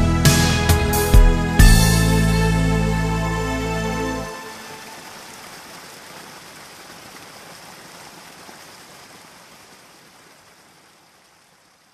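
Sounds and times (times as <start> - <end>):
rain falling: 1.9 - 11.9.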